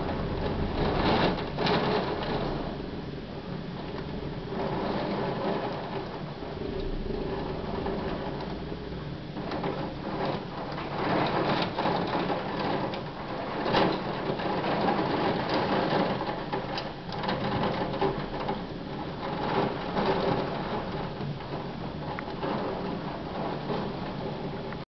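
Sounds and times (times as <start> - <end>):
heavy rain pattering: 0.0 - 24.9.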